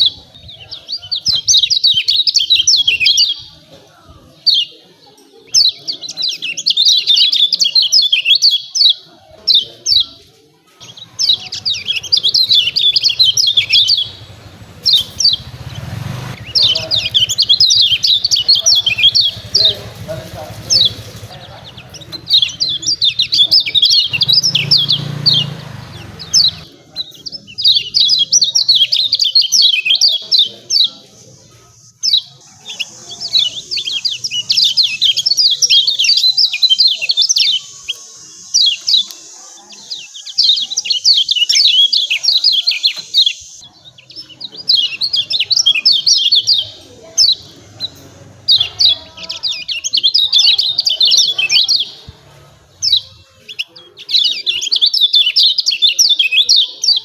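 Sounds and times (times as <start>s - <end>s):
bird chirping calls: 0.0s - 57.0s.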